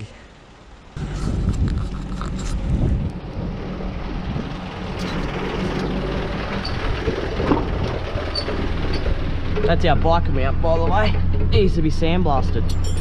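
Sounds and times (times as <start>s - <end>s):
wind buffeting microphone: 1.0s - 11.7s
engine idling: 1.0s - 13.0s.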